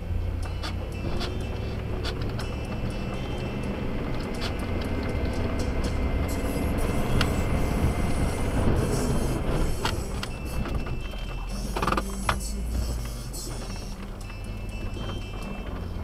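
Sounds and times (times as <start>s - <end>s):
truck engine running: 0.0s - 16.0s
music from a radio: 0.4s - 16.0s.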